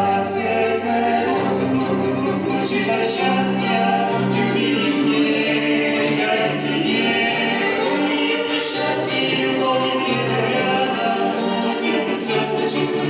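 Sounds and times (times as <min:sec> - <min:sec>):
vocal ensemble singing in chorus: 0:00.0 - 0:13.0.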